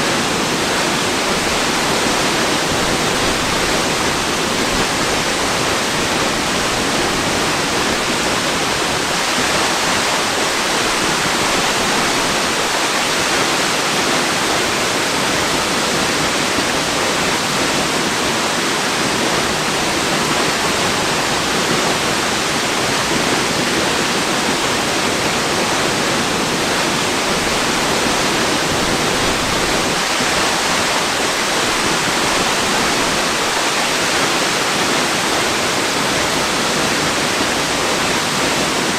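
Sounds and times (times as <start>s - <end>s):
waterfall pouring: 0.0s - 38.9s.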